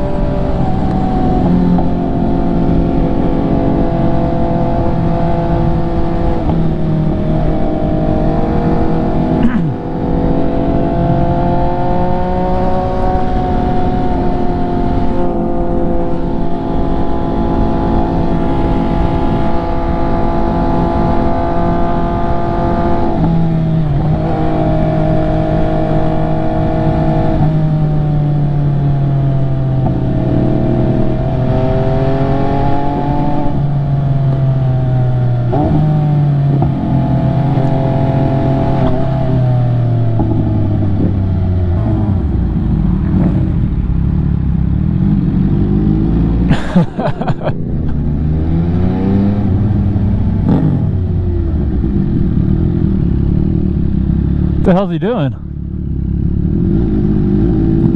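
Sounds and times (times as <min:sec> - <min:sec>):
motorcycle engine revving: 0:00.0 - 0:54.8, 0:55.4 - 0:57.9.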